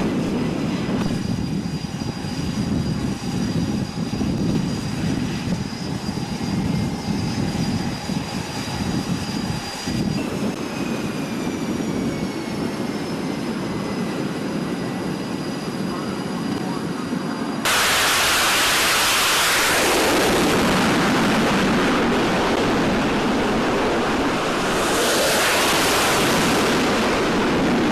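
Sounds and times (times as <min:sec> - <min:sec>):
jet engine rumble and whine: 0:00.0 - 0:27.9.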